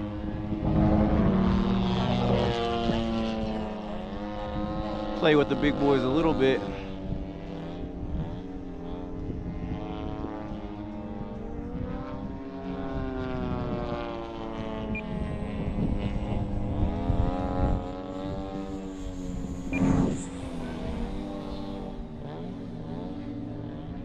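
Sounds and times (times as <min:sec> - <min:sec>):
model airplane electric motor: 0:01.9 - 0:24.0.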